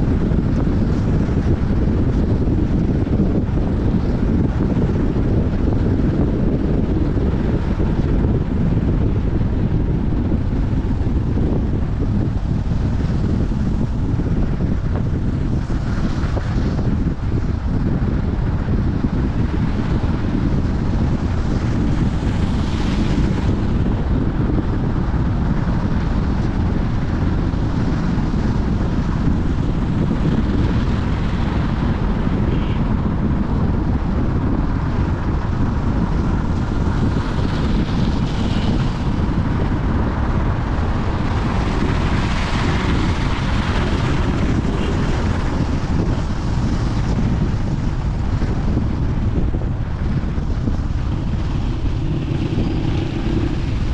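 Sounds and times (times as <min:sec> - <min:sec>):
moving vehicle rumble: 0:00.0 - 0:53.9
wind noise on microphone: 0:00.0 - 0:53.9.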